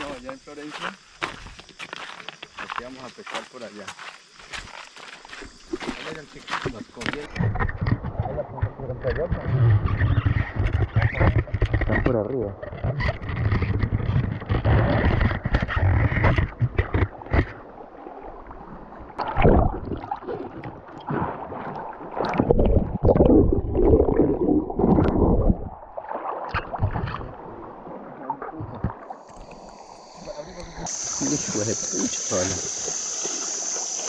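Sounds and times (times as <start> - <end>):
water splashes: 0.0 - 34.0
river water sloshing and gurgling: 3.9 - 34.0.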